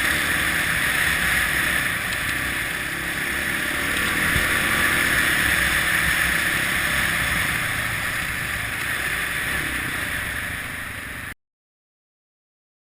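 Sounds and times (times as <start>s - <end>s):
motorcycle engine rumbling: 0.0s - 11.4s.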